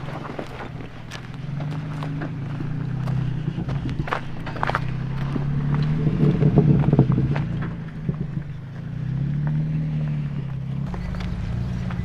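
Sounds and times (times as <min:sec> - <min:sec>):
car engine revving uphill: 0:00.0 - 0:12.0.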